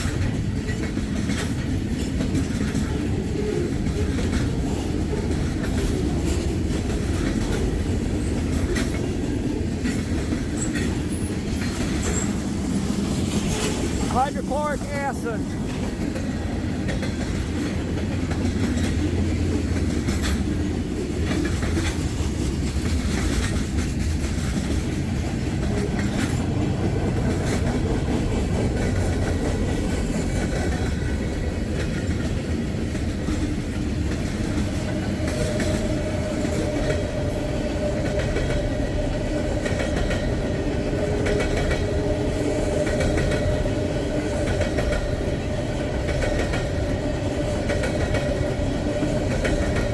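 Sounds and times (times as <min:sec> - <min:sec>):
train wheels clicking over rail joints: 0:00.0 - 0:14.7, 0:15.5 - 0:49.9.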